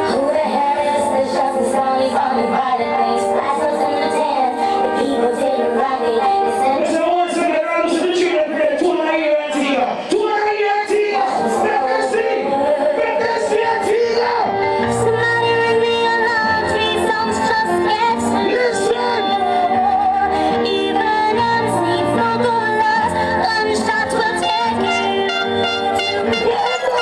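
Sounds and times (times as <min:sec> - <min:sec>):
reggae song over sound system: 0:00.0 - 0:27.0.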